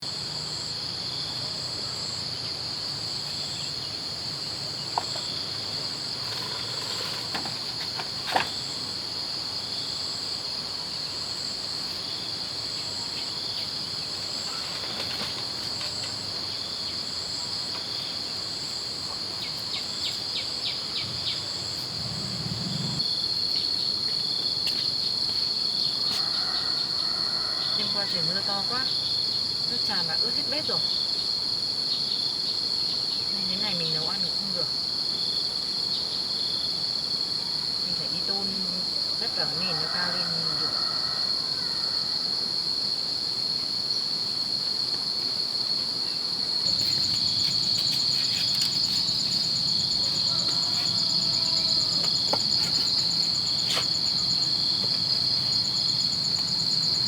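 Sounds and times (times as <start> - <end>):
insects droning and trilling: 0.0 - 57.0.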